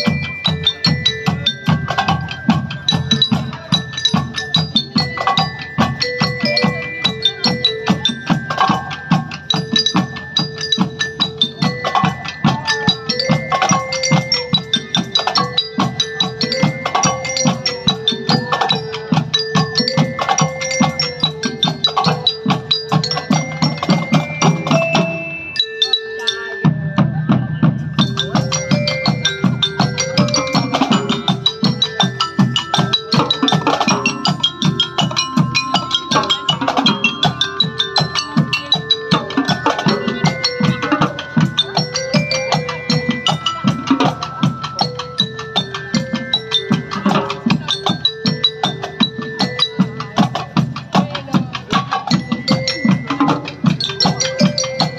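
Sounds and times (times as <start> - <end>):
glockenspiel melody: 0.0 - 54.9.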